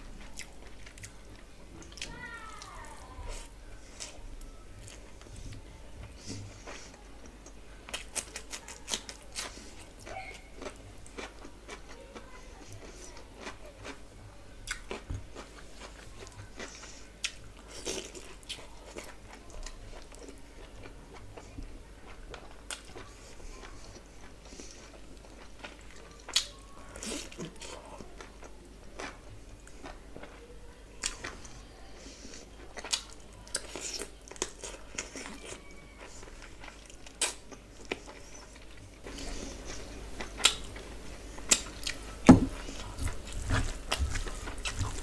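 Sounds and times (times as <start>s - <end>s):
chewing and biting food: 4.8s - 30.4s, 31.0s - 45.0s.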